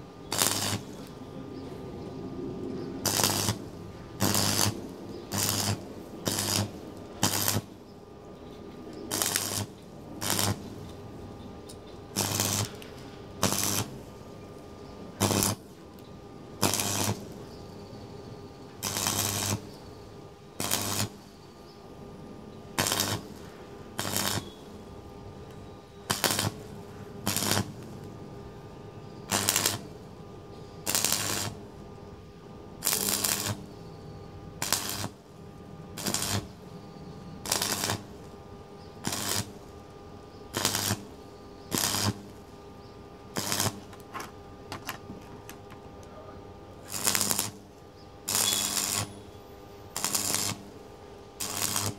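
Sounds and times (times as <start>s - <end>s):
arc welding bursts: 0.0s - 1.2s, 3.0s - 7.9s, 9.0s - 10.9s, 12.1s - 15.9s, 16.5s - 21.7s, 22.7s - 28.2s, 29.0s - 31.9s, 32.8s - 44.7s, 46.7s - 51.9s.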